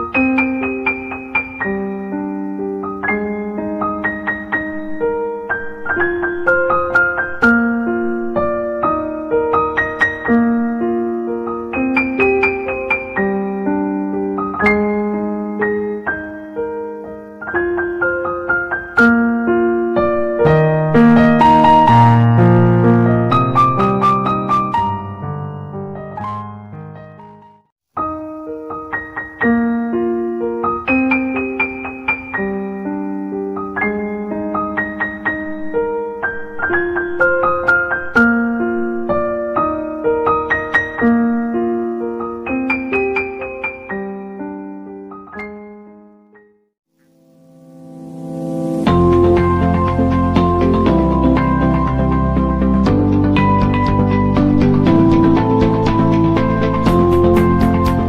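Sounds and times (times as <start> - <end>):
slow piano melody: 0.0 - 58.0.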